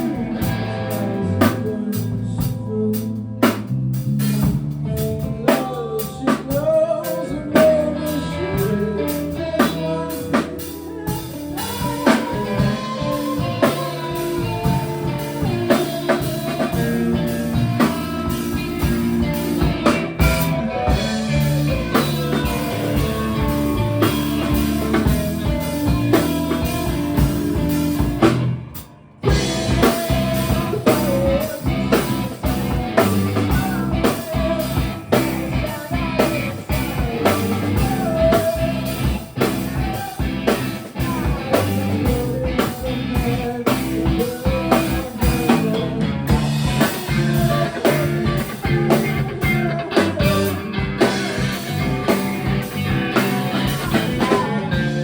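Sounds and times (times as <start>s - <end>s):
distorted electric guitar: 0.0s - 55.0s
drum kit: 0.0s - 55.0s.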